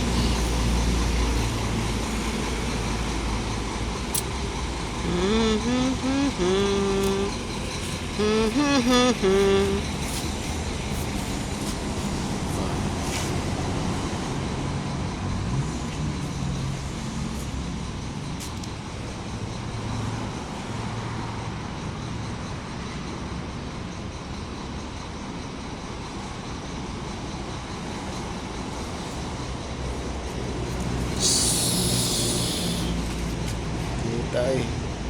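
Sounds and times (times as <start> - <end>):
large engine running: 0.0 - 35.0.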